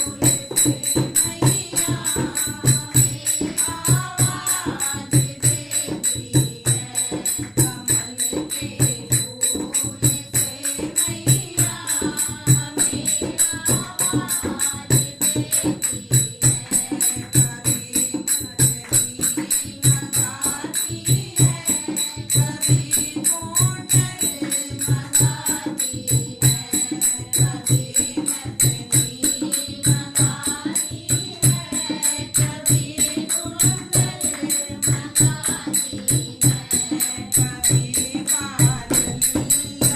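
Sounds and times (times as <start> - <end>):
devotional song singing: 0.0 - 39.9
percussion beat: 0.0 - 39.9.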